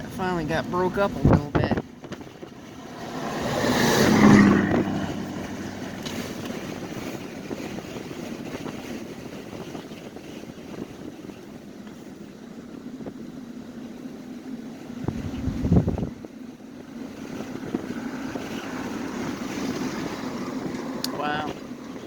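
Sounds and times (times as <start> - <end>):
strong storm wind rushing: 0.0 - 12.2, 14.8 - 22.0.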